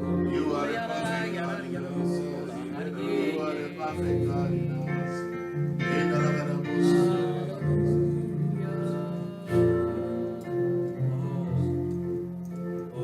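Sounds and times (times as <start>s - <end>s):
slow worship music with organ chords: 0.0s - 13.0s.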